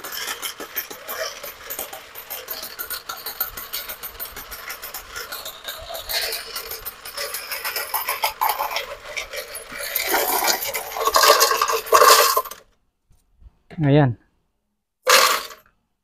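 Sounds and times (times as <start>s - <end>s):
coins clinking and rattling: 0.0s - 12.6s, 15.1s - 15.6s.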